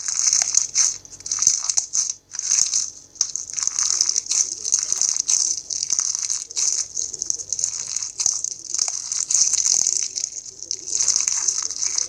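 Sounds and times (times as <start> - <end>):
crunchy slime crackling: 0.0 - 12.0.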